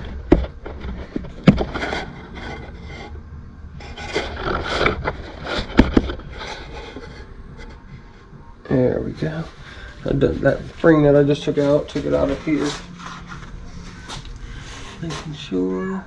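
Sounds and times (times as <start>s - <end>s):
metal parts scraping and rubbing: 0.0s - 7.9s, 9.2s - 15.7s.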